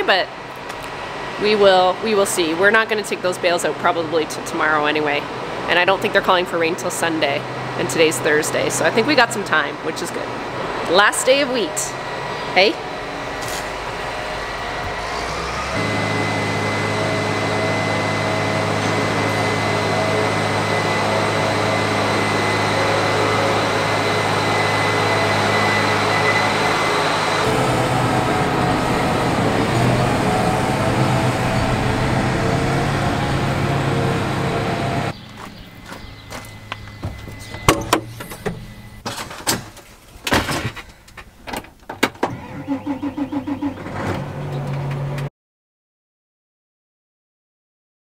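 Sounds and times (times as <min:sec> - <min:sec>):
diesel engine running: 0:00.0 - 0:39.1, 0:42.3 - 0:45.3
steady high whine: 0:00.0 - 0:39.1.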